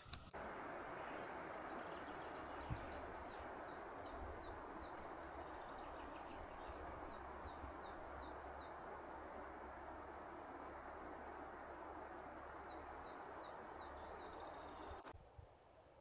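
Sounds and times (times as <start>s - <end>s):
songbird singing: 0.0s - 15.1s
steady rushing background: 0.4s - 15.1s.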